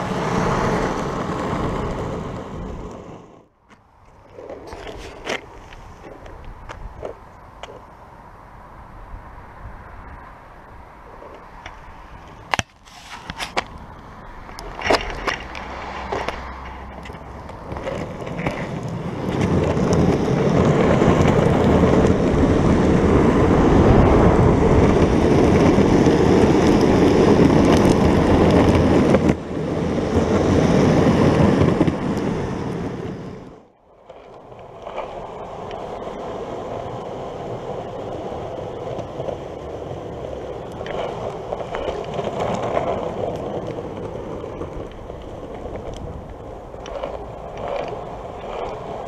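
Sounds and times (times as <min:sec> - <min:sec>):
longboard wheels rolling: 0:00.0 - 0:49.0.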